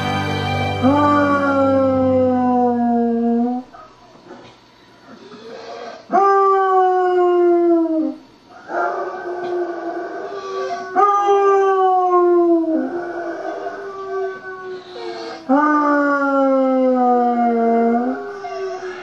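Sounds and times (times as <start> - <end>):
dog howling: 0.8 - 4.0, 5.6 - 19.0.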